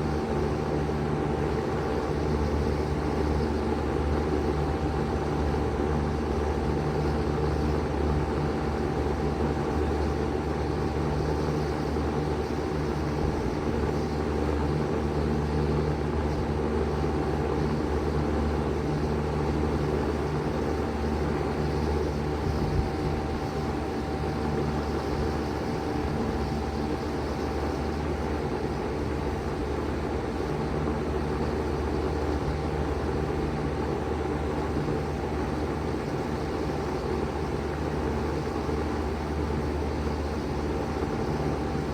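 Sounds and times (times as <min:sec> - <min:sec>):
heat pump humming: 0:00.0 - 0:41.9.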